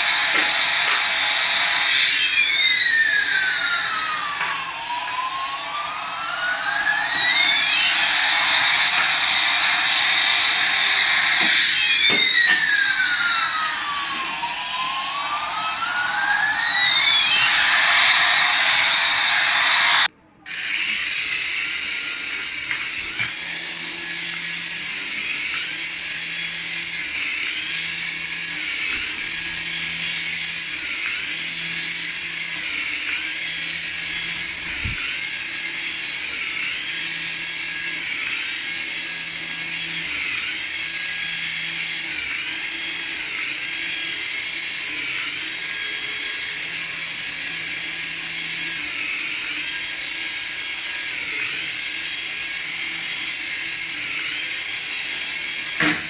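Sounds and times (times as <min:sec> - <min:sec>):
toy motor and gears running: 0:00.0 - 0:56.0.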